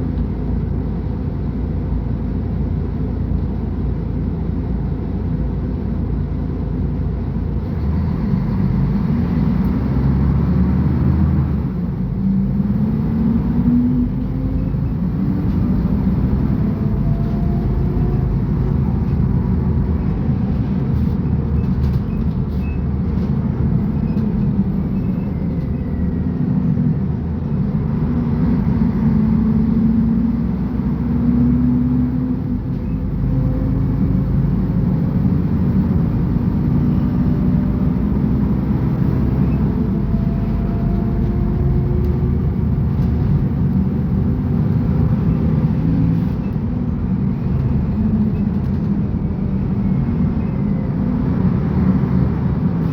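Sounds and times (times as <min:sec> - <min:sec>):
bus diesel engine: 0:00.0 - 0:52.9.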